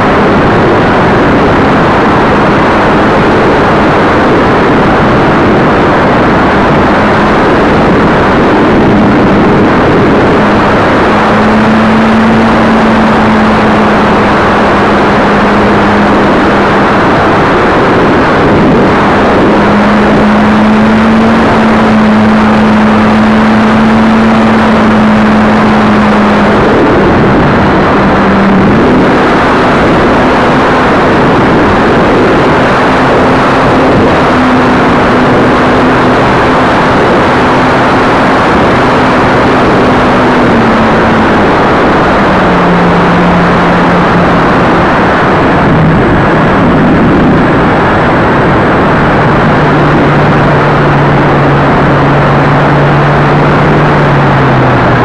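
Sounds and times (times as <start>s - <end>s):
electric motor and propeller drone: 0.0s - 47.9s
wind rush: 0.0s - 55.0s.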